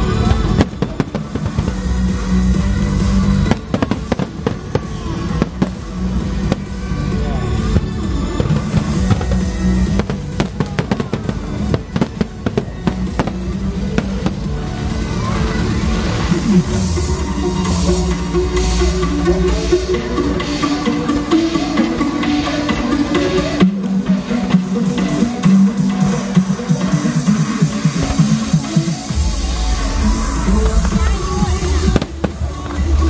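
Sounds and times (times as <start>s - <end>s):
fireworks bursting and crackling: 0.0s - 18.9s, 23.0s - 33.0s
music playing: 0.0s - 33.0s.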